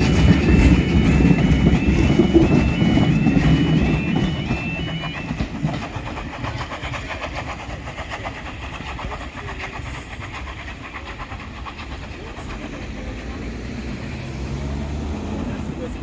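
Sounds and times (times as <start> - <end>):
train wheels clacking over rails: 0.0 - 16.0.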